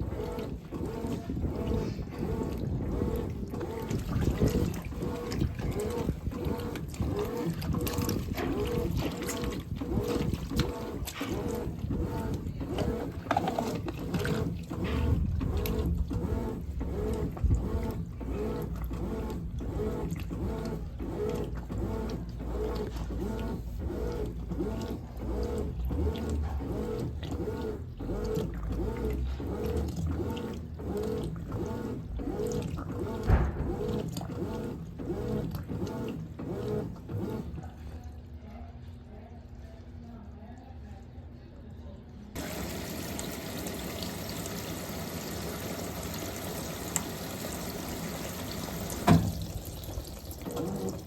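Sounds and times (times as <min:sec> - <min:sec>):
washing machine agitating in water: 0:00.0 - 0:40.0, 0:42.3 - 0:51.0.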